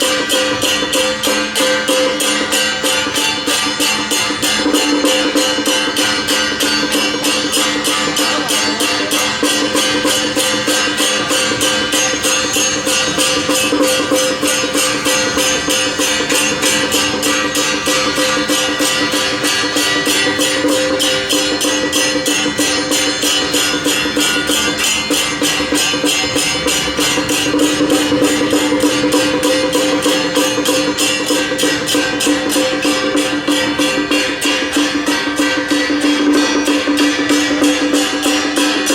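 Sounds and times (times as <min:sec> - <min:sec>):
metallic percussion strokes: 0:00.0 - 0:38.9.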